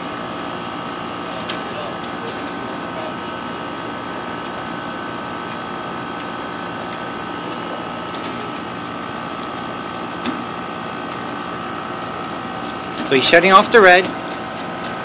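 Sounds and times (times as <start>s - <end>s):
condensing unit humming: 0.0s - 15.0s.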